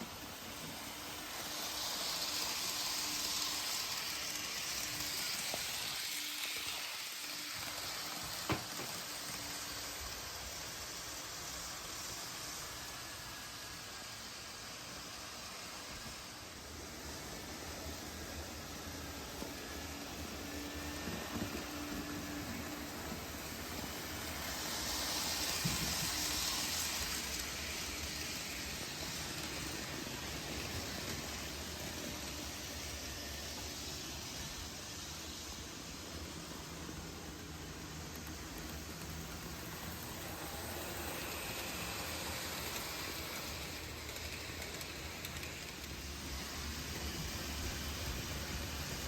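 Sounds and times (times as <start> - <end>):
model trains running: 0.0 - 49.0.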